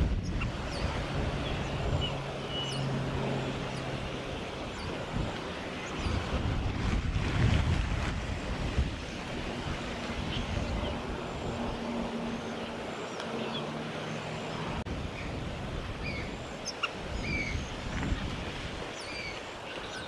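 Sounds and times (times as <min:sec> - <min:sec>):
wind buffeting microphone: 0:00.0 - 0:13.0, 0:14.7 - 0:20.0.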